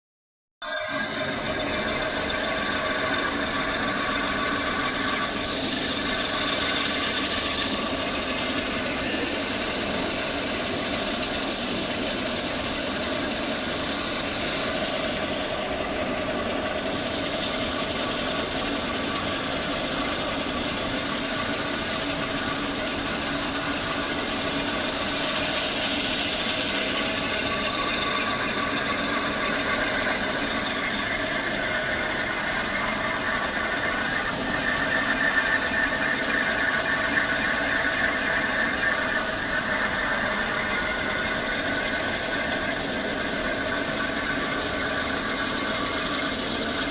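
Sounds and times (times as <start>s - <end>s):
lathe machining metal: 0.6s - 46.9s.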